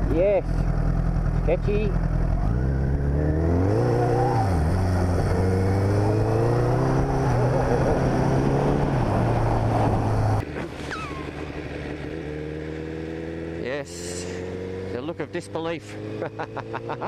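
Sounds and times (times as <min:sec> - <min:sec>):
motorcycle engine running: 0:00.0 - 0:08.8, 0:09.5 - 0:16.6.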